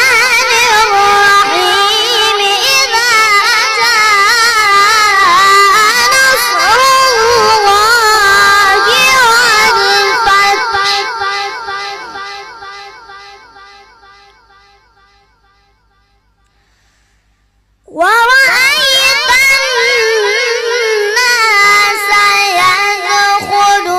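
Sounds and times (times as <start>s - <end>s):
boy reciting melodically with echo: 0.0s - 16.8s, 17.8s - 23.9s.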